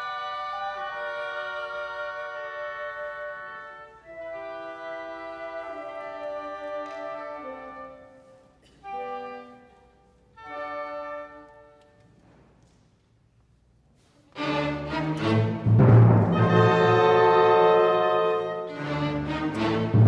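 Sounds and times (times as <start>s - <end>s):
orchestra playing classical music: 0.0s - 12.6s, 14.0s - 20.0s.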